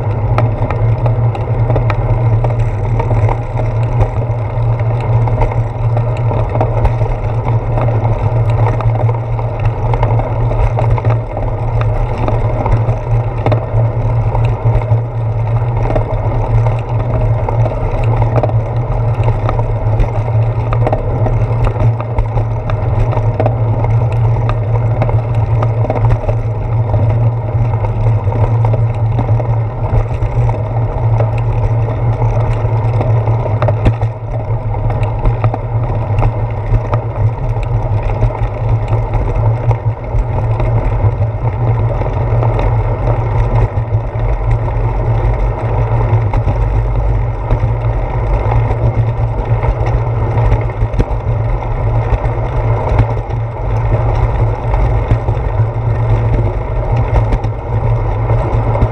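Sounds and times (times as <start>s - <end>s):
wind buffeting and road rumble: 0.0s - 58.9s.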